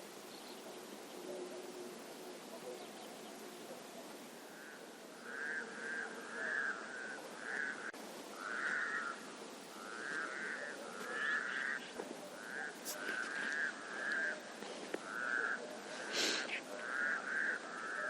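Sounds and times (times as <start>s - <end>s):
faint background hiss: 0.0s - 18.0s
frogs croaking: 0.0s - 18.0s.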